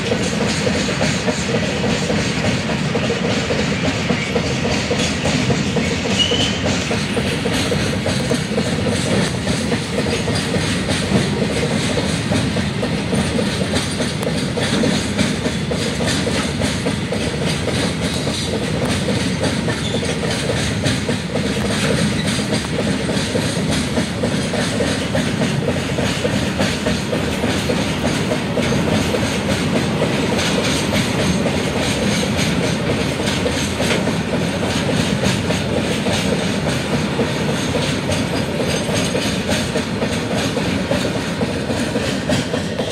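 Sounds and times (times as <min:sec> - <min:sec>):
freight train rumbling past: 0:00.0 - 0:42.9
steel wheels clattering on rails: 0:00.0 - 0:42.9.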